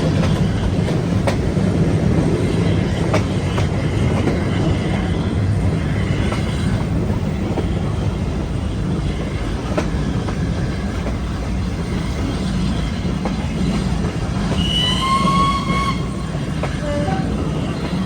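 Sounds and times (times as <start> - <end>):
rail joints clicking: 0.0 - 18.0
train rumbling on track: 0.0 - 18.0.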